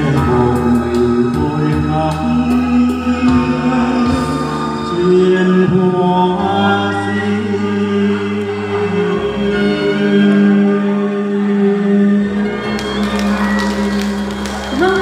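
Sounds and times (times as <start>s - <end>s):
karaoke backing music over loudspeaker: 0.0s - 15.0s.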